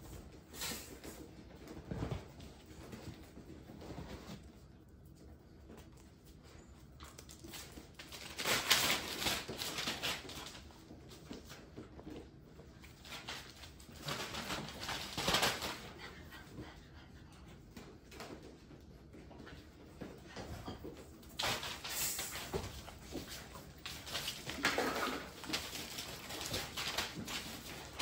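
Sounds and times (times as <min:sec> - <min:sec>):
puppies scuffling: 0:00.1 - 0:28.0.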